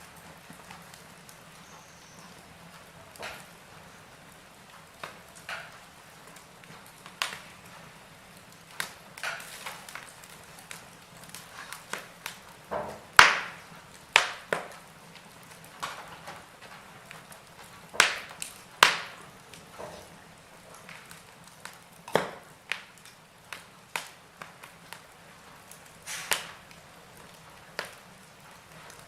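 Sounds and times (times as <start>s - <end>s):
logs crackling and popping: 0.0s - 29.0s.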